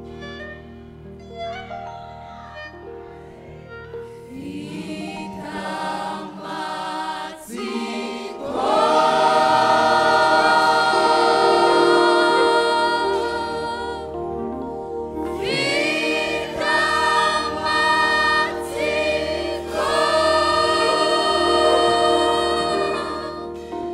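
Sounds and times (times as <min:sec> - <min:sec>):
soft sustained backing: 0:00.0 - 0:23.9
gospel singing: 0:03.2 - 0:23.9.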